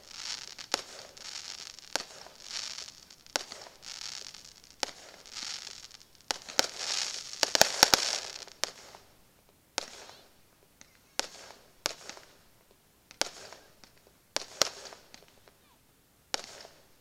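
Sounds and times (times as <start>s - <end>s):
firework bangs: 0.0s - 15.6s, 16.3s - 17.0s
hissing crackle of fireworks: 0.0s - 17.0s.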